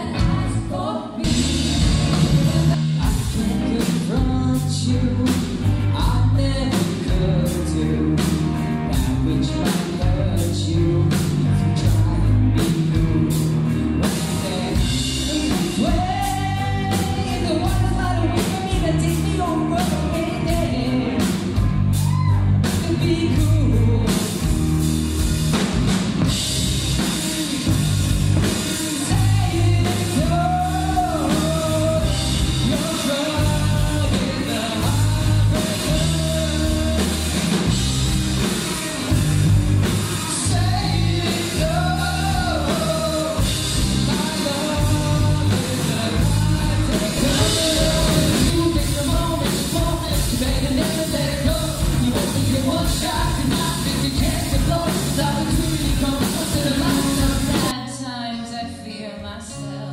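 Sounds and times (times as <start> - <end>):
drums beating: 0.0 - 57.8
rock song: 0.0 - 59.9.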